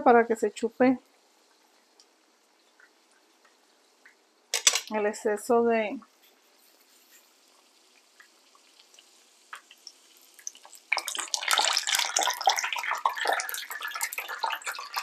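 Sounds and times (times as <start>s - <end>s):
frying oil crackling and sizzling: 0.0s - 15.0s.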